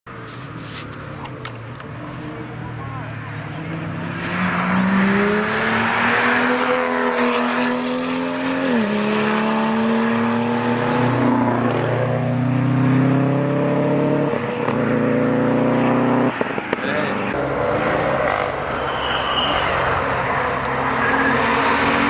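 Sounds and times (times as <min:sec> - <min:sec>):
second car engine: 0:00.1 - 0:22.0
car engine accelerating hard: 0:02.4 - 0:22.0.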